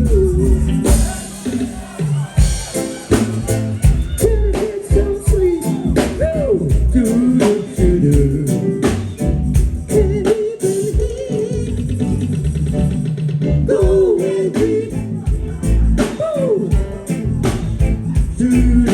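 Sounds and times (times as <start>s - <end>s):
lead vocal singing: 0.0s - 12.6s, 13.7s - 18.9s
deep bass line: 0.0s - 18.9s
drum hits: 0.0s - 18.9s.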